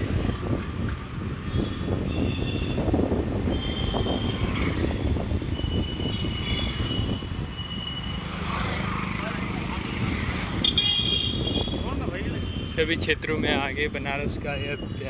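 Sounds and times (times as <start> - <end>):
wind buffeting microphone: 0.0 - 8.1, 9.1 - 15.0
road noise from moving vehicle: 0.0 - 15.0.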